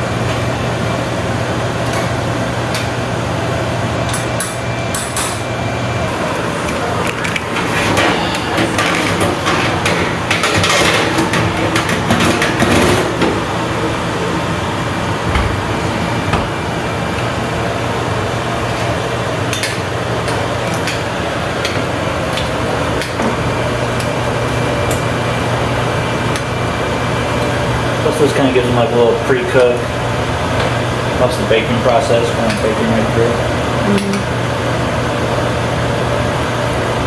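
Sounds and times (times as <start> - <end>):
steady hum: 0.0 - 35.4.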